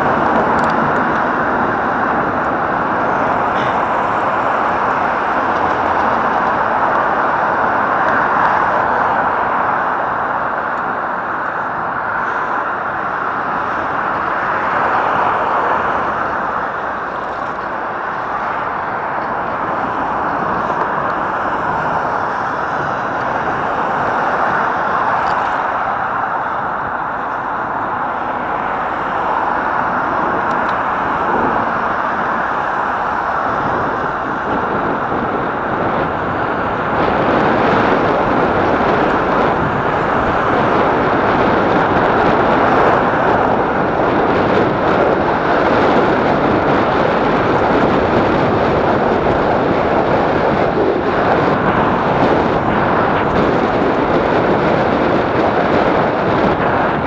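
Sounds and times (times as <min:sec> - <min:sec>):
bicycle tyres on asphalt: 0:00.0 - 0:57.0
wind over microphone: 0:00.0 - 0:57.0.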